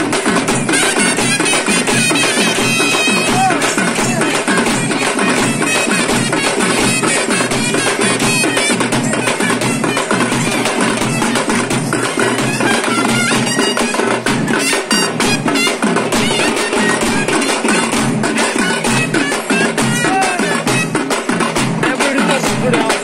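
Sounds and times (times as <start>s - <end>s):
festival music with fast drumming: 0.0s - 23.0s.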